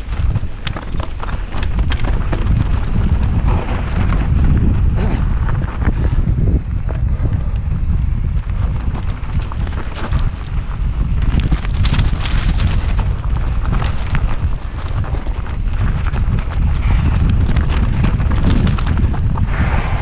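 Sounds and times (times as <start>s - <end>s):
tyres clicking on stones: 0.0s - 6.0s, 8.5s - 20.0s
heavy rumble: 0.0s - 20.0s
wind buffeting the microphone: 0.0s - 20.0s.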